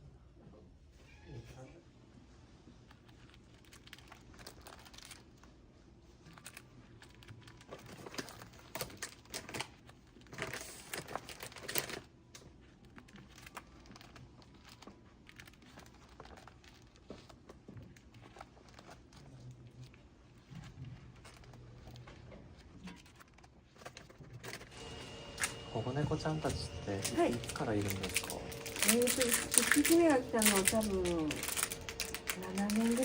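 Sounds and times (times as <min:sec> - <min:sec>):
crinkling and rustling crackles: 0:02.5 - 0:25.8, 0:26.4 - 0:33.0.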